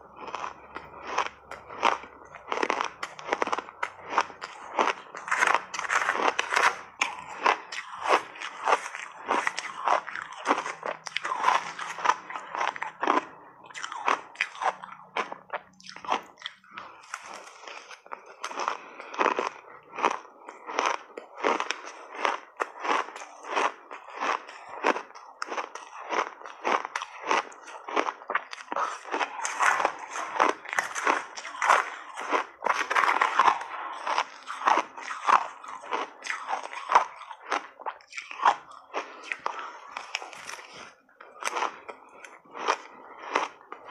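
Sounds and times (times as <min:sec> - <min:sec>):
ice being chewed: 0:00.0 - 0:43.9.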